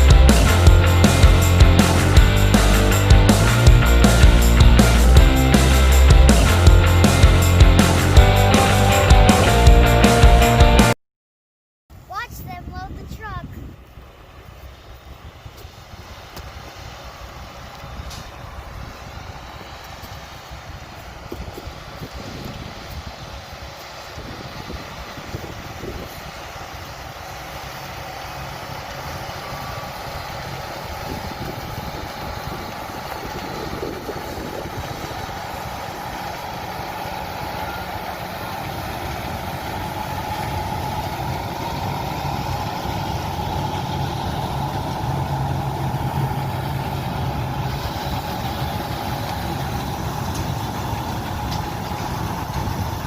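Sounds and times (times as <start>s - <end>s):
harvest machinery engine running: 0.0s - 10.9s, 12.9s - 53.0s.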